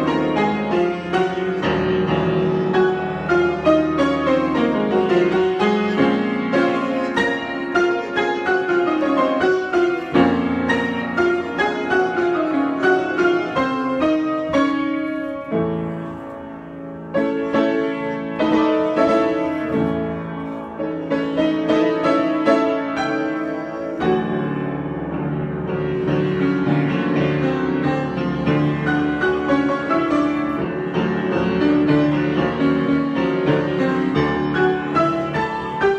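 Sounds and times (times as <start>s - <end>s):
solo piano improvisation: 0.0s - 35.9s.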